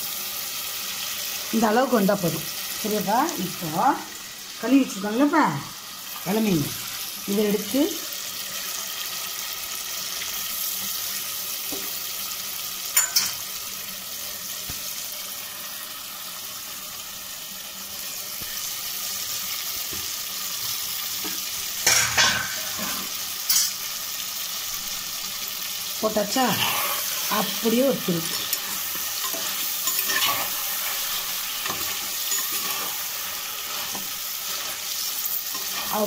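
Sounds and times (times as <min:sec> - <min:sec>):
sauce sizzling in oil: 0:00.0 - 0:36.0.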